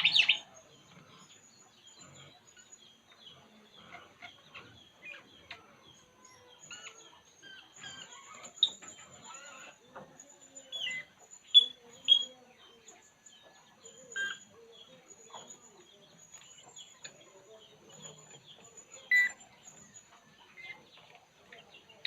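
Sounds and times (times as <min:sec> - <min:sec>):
bird chirping: 0:00.0 - 0:22.0
faint high buzz of insects: 0:00.0 - 0:22.0.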